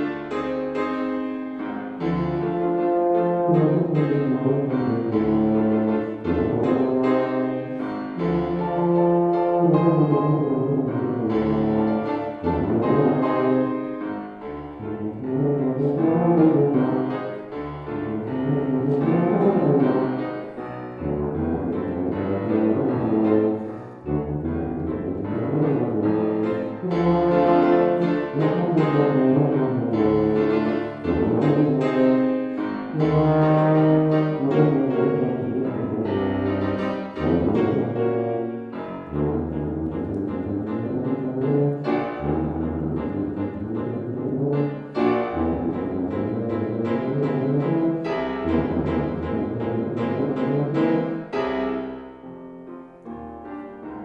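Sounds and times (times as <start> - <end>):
grand piano: 0.0 - 54.0
tuba: 0.0 - 54.0.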